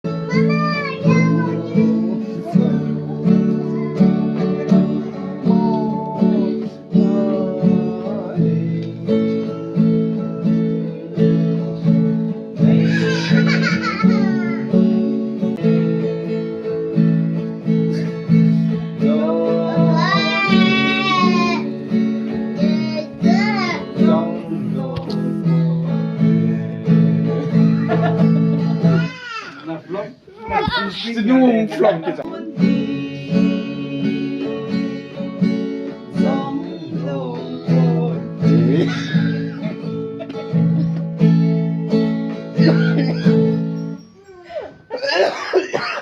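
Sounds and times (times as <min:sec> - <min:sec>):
acoustic guitar music with beat: 0:00.0 - 0:29.4, 0:31.7 - 0:46.0.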